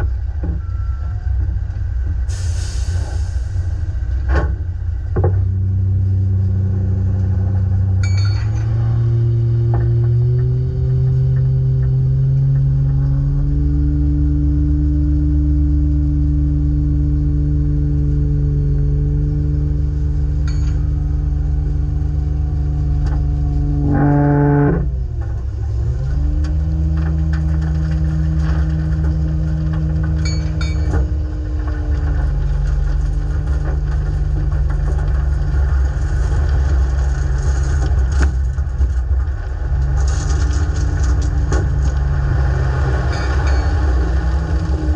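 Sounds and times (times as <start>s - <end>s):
truck diesel engine rumbling: 0.0s - 44.9s.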